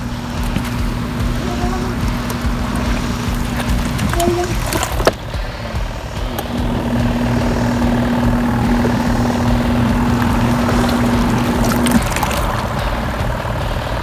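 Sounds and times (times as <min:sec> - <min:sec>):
washing machine motor hum: 0:00.0 - 0:14.0
water churning: 0:00.0 - 0:14.0.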